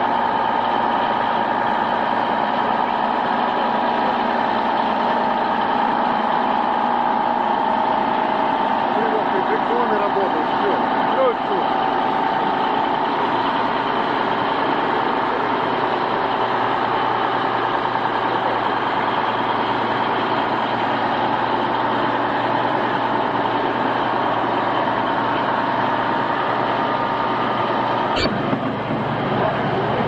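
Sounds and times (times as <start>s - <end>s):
constant whine: 0.0s - 30.0s
heavy vehicle engine running: 0.0s - 30.0s.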